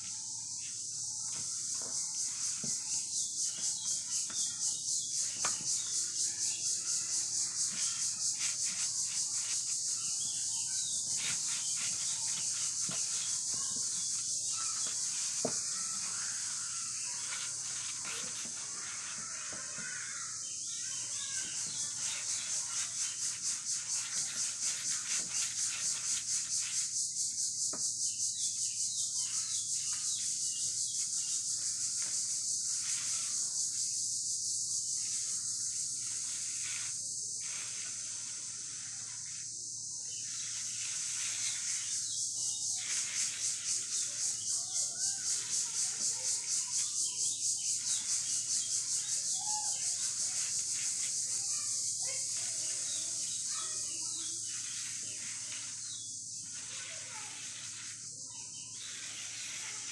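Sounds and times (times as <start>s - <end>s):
high-pitched insect buzzing: 0.0s - 59.9s.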